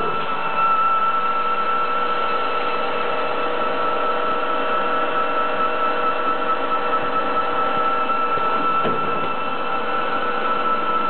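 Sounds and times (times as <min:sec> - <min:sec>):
constant high whine: 0:00.0 - 0:11.0
lathe machine hum: 0:00.0 - 0:11.0.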